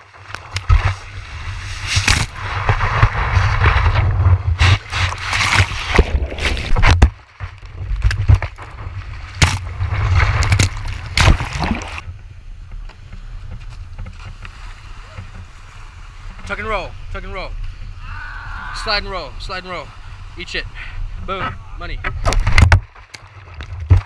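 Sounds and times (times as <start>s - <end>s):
skimboard sliding through water: 0.0s - 24.0s.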